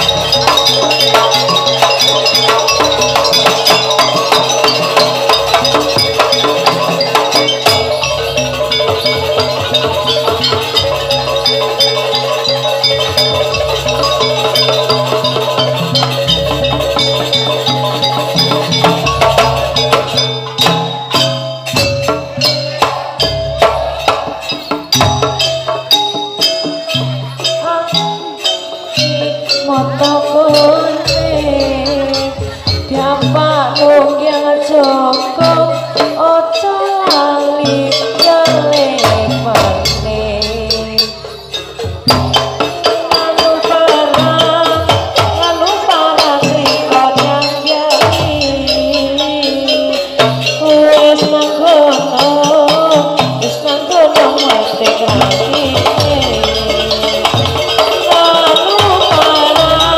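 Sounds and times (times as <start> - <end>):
bending melody line: 0.0 - 59.9
drums: 0.0 - 59.9
ringing metal percussion: 0.0 - 59.9.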